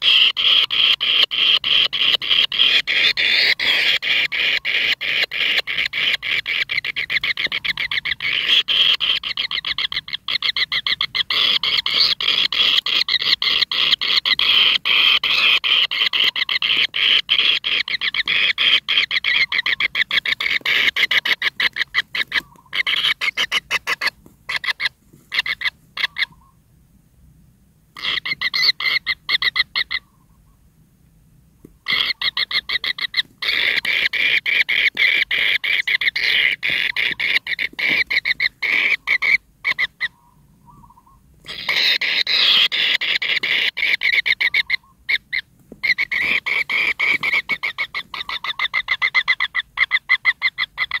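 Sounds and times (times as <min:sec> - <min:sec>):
nestlings calling with pulsing trill: 0:00.0 - 0:26.6, 0:28.0 - 0:30.7, 0:31.8 - 0:51.0.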